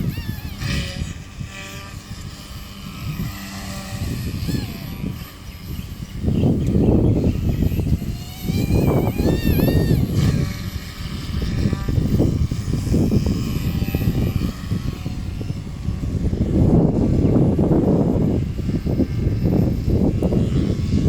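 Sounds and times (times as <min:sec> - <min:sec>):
high motor whine: 0:00.0 - 0:21.0
rc helicopter rotor noise: 0:00.0 - 0:21.0.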